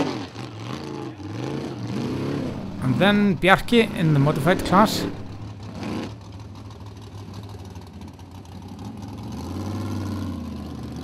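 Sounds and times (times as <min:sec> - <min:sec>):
racing buggy engine climbing: 0:00.0 - 0:11.0.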